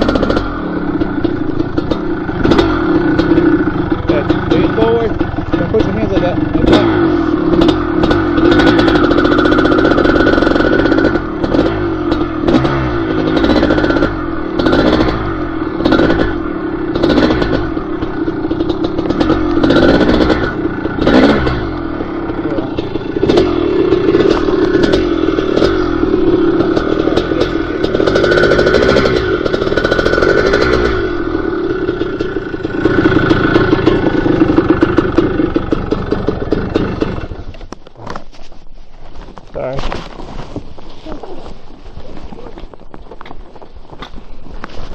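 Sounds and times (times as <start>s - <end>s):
bike knocking and clattering: 0.0s - 38.4s
dirt bike engine: 0.0s - 44.9s.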